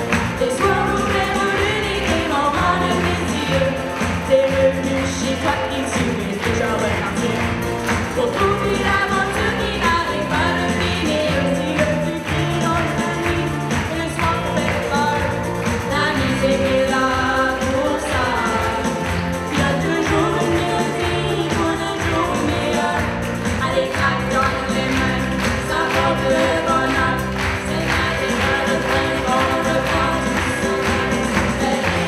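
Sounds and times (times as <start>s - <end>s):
band playing pop song: 0.0s - 32.0s
women singing: 0.0s - 32.0s.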